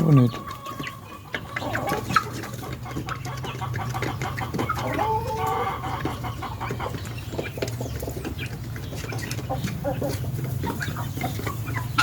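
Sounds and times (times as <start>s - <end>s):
guinea fowl clucking: 0.0s - 12.0s.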